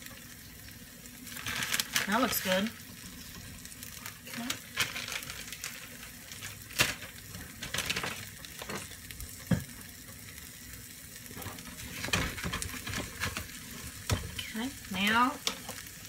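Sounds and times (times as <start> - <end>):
omelette sizzling in a frying pan: 0.0 - 16.0.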